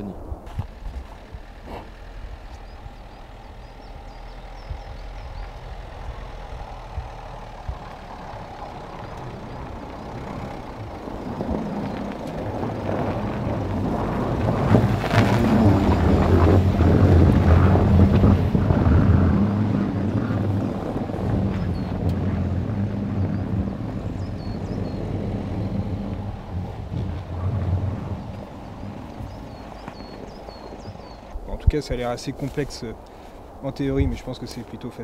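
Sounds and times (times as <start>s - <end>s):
car engine hum: 0.0s - 35.0s
tyre and wind noise: 0.0s - 35.0s.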